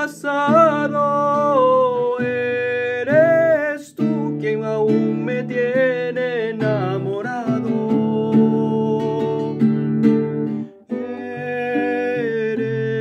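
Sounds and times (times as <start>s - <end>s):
man singing a slow ballad: 0.0s - 9.6s, 10.9s - 13.0s
strummed acoustic guitar: 0.0s - 13.0s.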